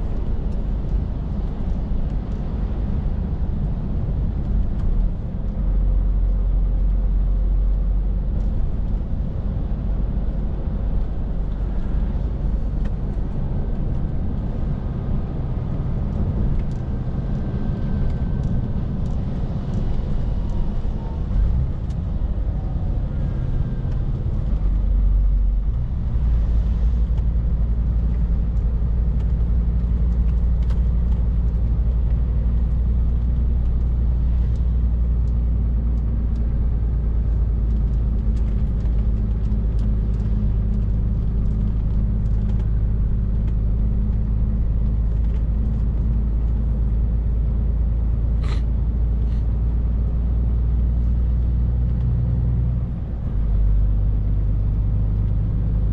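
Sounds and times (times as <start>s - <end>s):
road rumble: 0.0s - 55.9s.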